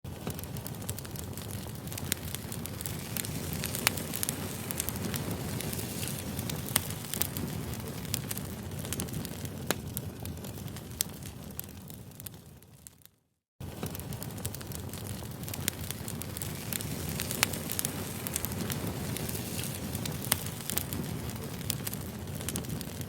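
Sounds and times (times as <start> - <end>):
campfire crackling: 0.1 - 23.0.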